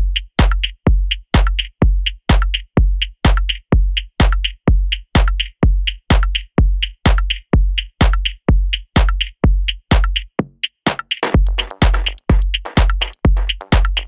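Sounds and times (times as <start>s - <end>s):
deep kick drum: 0.0s - 10.6s, 11.2s - 14.0s.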